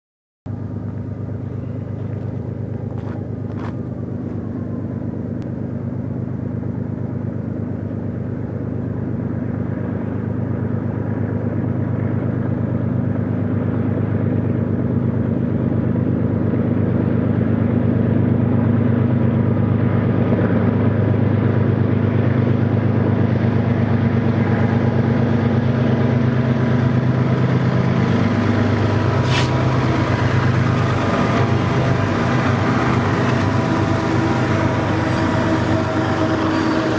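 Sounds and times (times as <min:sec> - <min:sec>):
diesel locomotive engines rumbling: 0:00.5 - 0:36.9.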